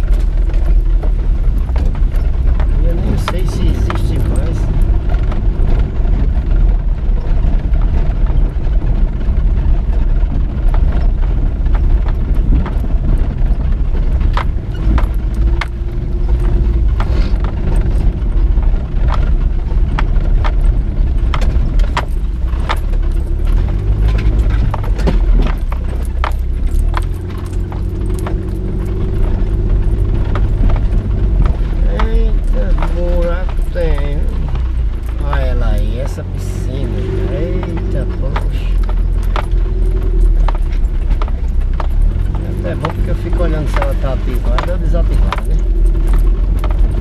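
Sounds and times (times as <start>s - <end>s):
car engine and road rumble: 0.0s - 47.0s
rattles and clicks: 0.0s - 47.0s.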